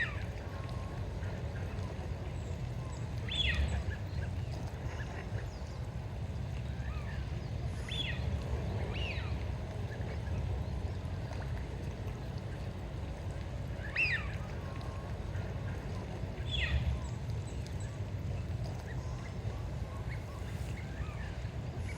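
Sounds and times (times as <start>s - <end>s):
steady low rumble: 0.0s - 21.9s.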